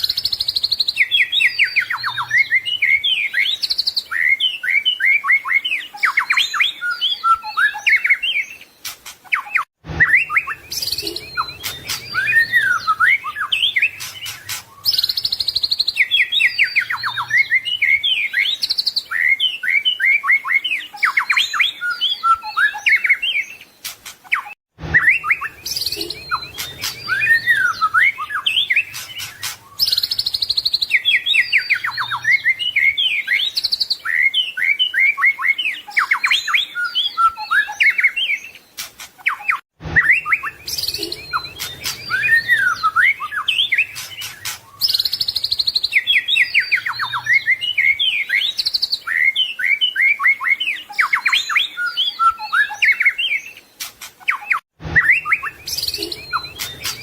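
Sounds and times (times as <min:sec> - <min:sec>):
bird singing whistled song: 0:00.0 - 0:57.0.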